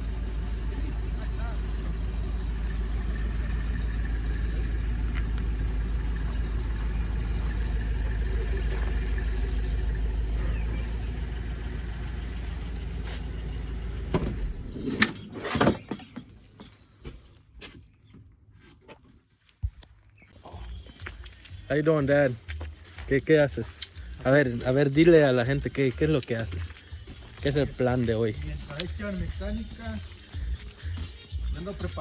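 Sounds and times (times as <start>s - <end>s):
vehicle engine idling: 0.0s - 14.8s, 20.4s - 32.0s.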